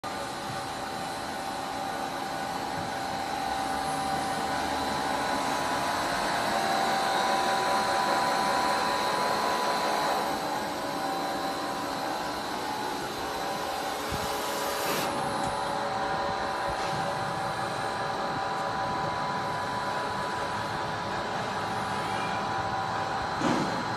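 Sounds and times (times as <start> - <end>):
high steady whine: 0.0 - 23.9
machinery hum: 0.1 - 23.9.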